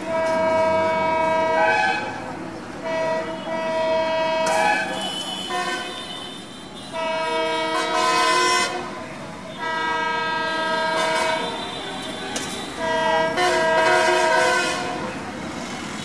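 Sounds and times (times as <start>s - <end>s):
locomotive air horn blasts: 0.0s - 2.2s, 2.8s - 15.2s.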